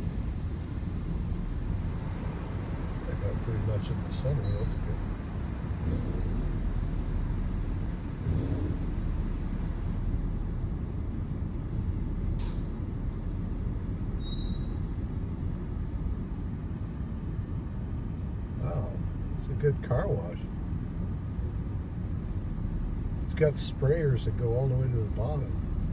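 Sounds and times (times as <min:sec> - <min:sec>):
car wash machinery rumble: 0:00.0 - 0:25.9.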